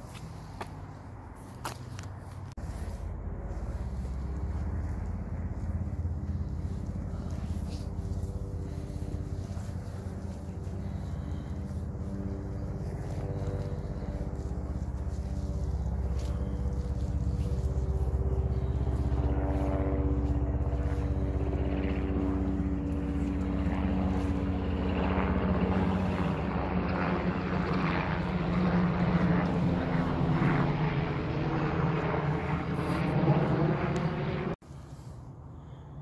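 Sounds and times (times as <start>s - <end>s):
propeller aircraft engine drone: 0.0s - 36.0s.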